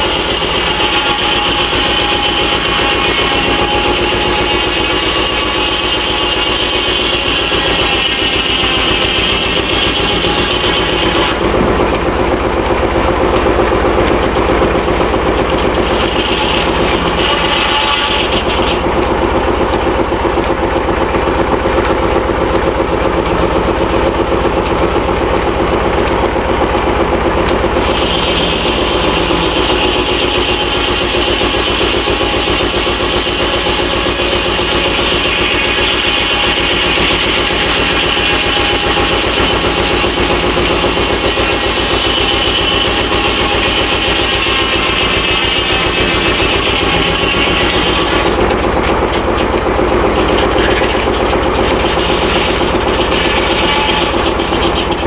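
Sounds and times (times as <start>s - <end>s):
saw whining through log: 0.0s - 55.0s
sawmill engine running: 0.0s - 55.0s.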